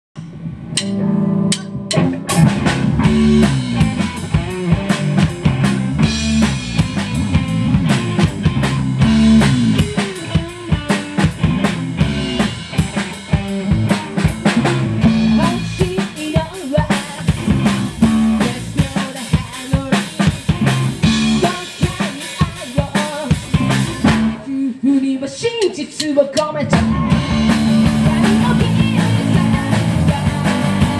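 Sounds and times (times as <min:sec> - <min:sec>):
electric guitar: 0:00.2 - 0:24.5, 0:26.5 - 0:30.9
drum kit: 0:00.2 - 0:30.9.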